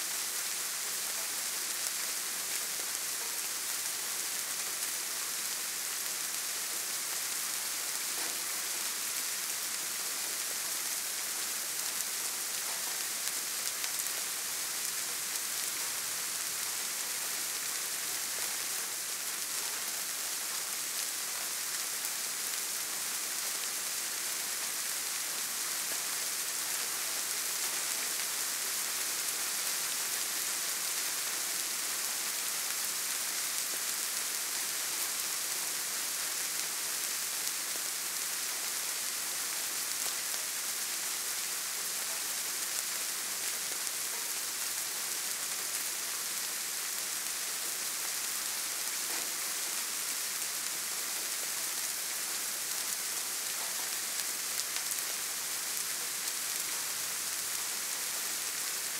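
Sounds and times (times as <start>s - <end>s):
soft rain falling: 0.0s - 58.9s.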